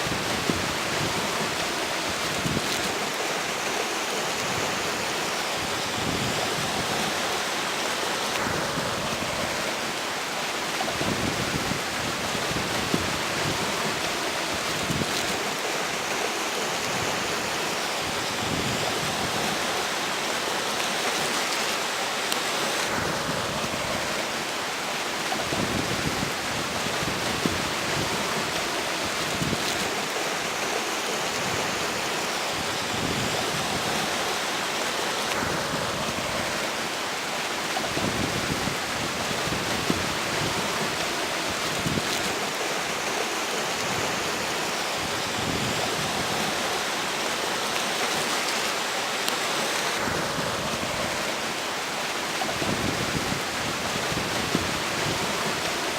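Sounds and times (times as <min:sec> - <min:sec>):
strong wind gusting: 0:00.0 - 0:10.1, 0:10.7 - 0:15.7, 0:22.9 - 0:47.6, 0:50.0 - 0:55.9
river water rushing: 0:00.0 - 0:55.9.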